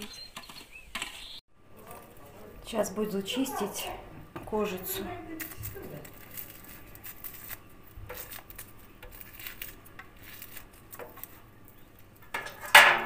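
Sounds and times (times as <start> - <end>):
peppers skin rustling and clicking: 0.0 - 12.7.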